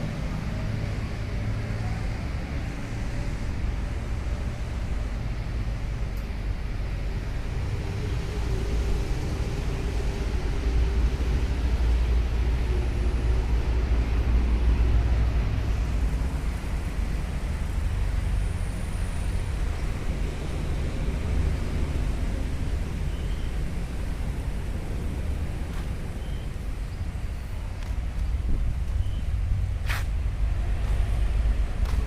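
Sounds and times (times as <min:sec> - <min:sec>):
heavy truck engine rumbling: 0:00.0 - 0:32.0.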